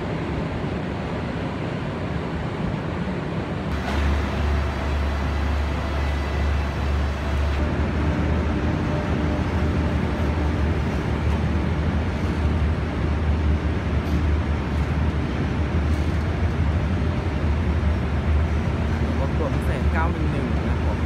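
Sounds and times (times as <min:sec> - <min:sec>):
train rumbling slowly: 0:00.0 - 0:21.0.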